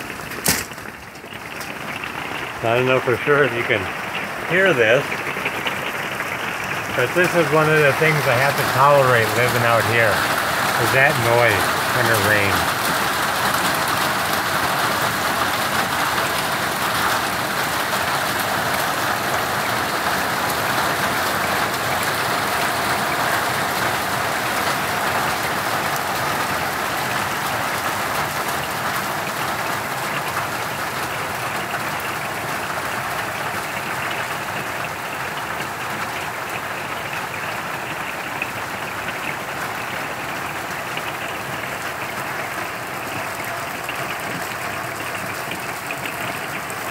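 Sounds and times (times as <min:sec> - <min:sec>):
hail and heavy rain clattering: 0:00.0 - 0:46.9.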